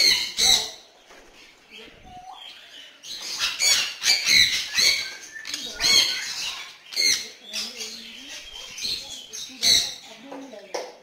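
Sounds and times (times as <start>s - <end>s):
parrot squawking: 0.0s - 0.9s, 2.1s - 10.1s.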